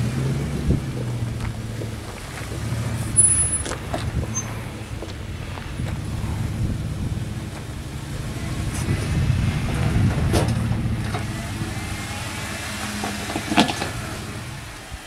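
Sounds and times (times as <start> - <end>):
engine revving unevenly: 0.0 - 15.0.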